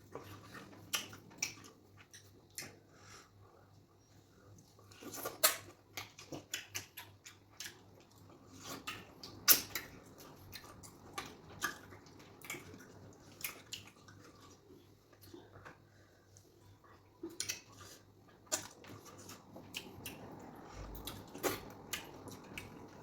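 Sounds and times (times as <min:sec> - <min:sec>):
faint low electrical hum: 0:00.0 - 0:23.0
wet eating and chewing sounds: 0:00.0 - 0:23.0.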